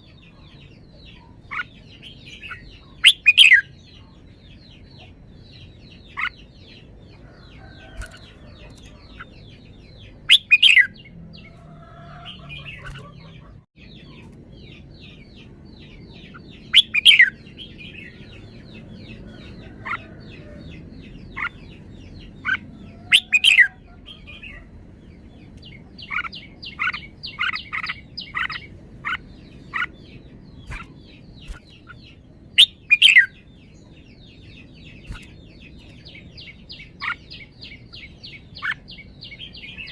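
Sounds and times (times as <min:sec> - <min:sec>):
bird singing loud phrases: 0:00.0 - 0:39.9.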